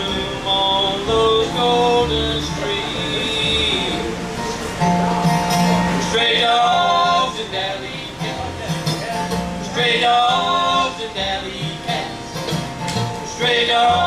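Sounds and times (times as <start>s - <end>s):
acoustic guitar: 0.0s - 14.0s
banjo: 0.0s - 14.0s
mandolin: 0.0s - 14.0s
upright bass: 0.0s - 14.0s.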